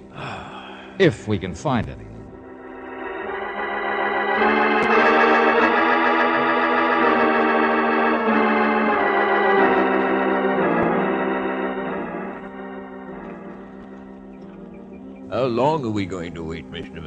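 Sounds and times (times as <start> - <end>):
organ chords: 0.0 - 17.0.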